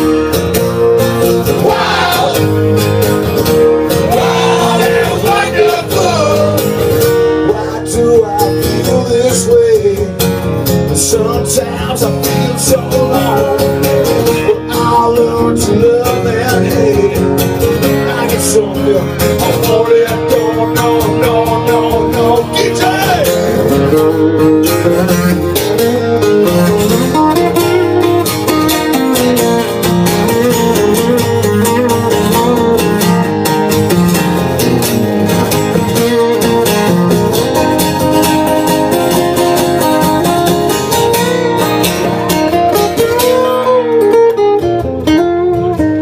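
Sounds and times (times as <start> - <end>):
electric guitars playing rock: 0.0 - 46.0.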